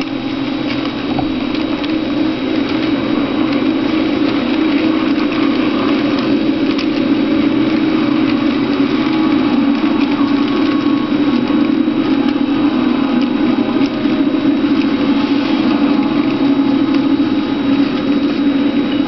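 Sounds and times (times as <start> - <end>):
model train motor hum: 0.0 - 19.0
rolling wheel noise: 0.0 - 19.0.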